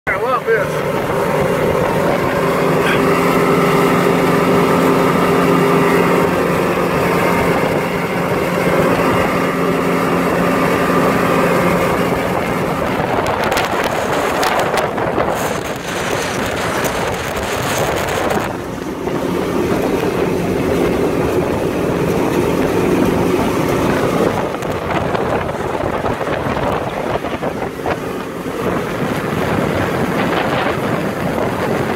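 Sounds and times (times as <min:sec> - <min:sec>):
boat engine hum: 0:00.1 - 0:31.9
wind and water rushing: 0:00.1 - 0:31.9.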